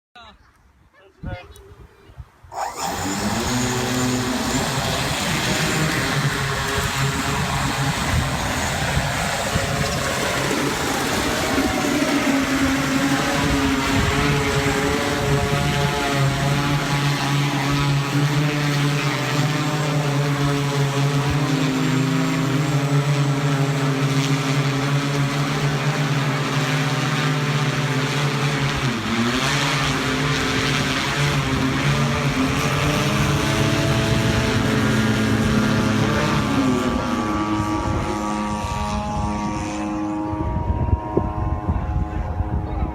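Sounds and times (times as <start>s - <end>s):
electric motors and propellers buzzing: 2.4s - 42.9s.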